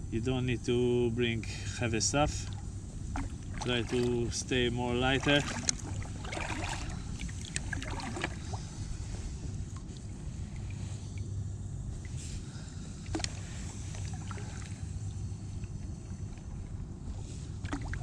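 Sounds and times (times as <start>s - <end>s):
water lapping against kayak hull: 1.6s - 18.0s.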